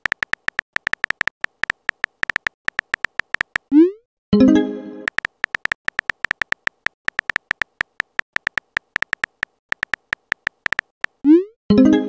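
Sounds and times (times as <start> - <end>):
keyboard typing ticks: 0.0 - 3.9, 5.1 - 11.5.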